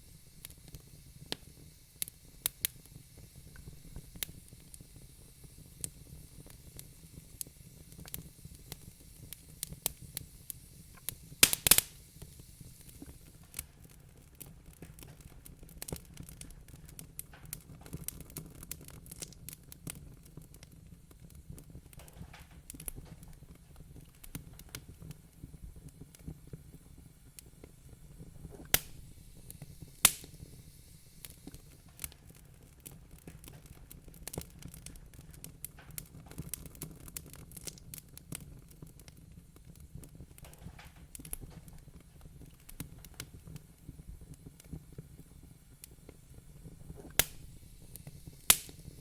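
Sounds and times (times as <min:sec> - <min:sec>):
loud pops of fire: 0:00.0 - 0:49.0
wood fire crackling: 0:00.0 - 0:49.0.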